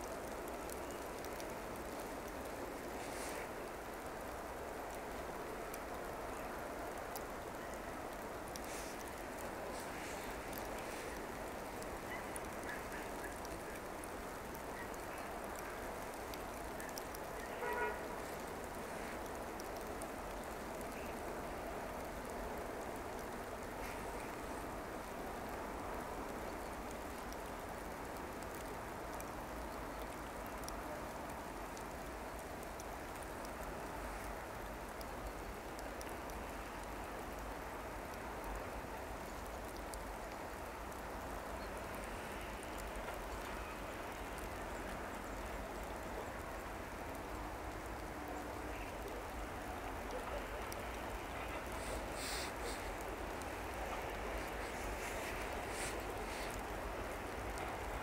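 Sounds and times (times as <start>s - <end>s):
light rain hissing: 0.0s - 58.0s.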